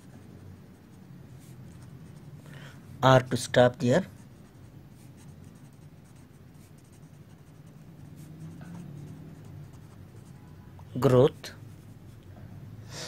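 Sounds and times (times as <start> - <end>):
marker pen writing on paper: 0.0 - 2.4, 4.0 - 12.2.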